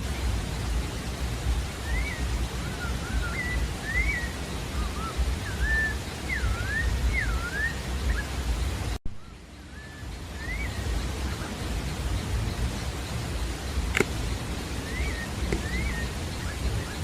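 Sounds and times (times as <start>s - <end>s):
low rushing noise: 0.0s - 17.0s
thrush singing whistled phrases: 1.6s - 17.0s.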